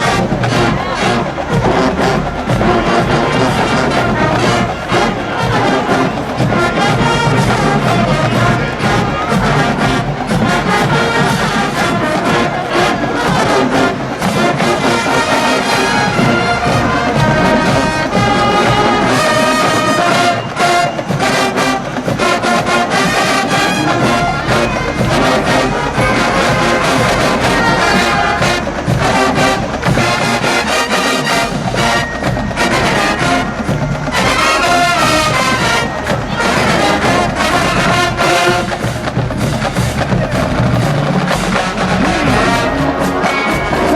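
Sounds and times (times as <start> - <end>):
brass section playing: 0.0 - 43.9
marching drums: 0.0 - 43.9.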